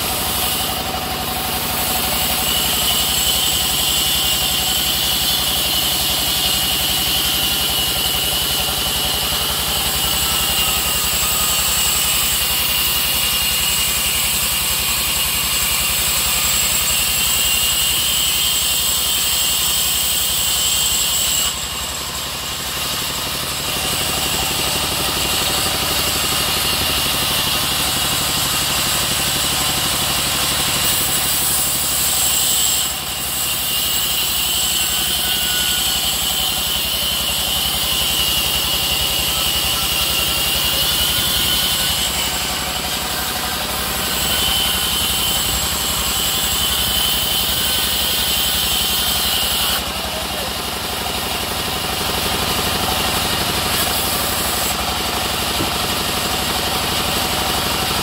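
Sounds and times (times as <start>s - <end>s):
band saw humming and whining: 0.0s - 58.0s.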